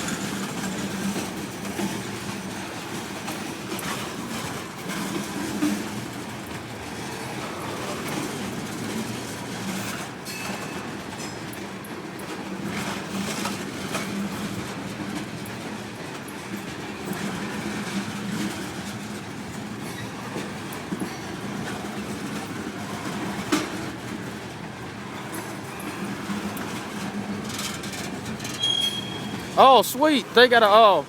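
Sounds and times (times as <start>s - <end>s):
freight train wheels rumbling on rail: 0.0s - 31.0s
train cars clacking: 0.0s - 31.0s.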